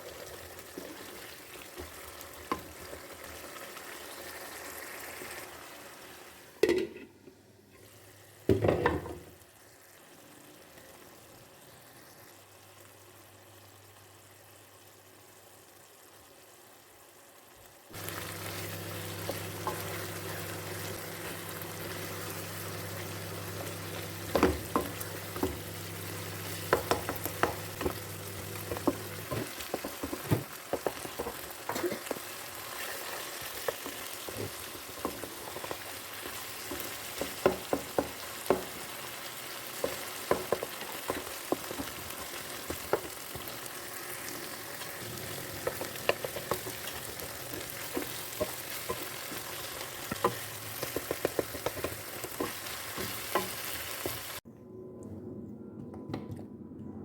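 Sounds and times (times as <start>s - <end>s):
food sizzling in a pan: 0.0s - 6.9s, 7.6s - 54.5s.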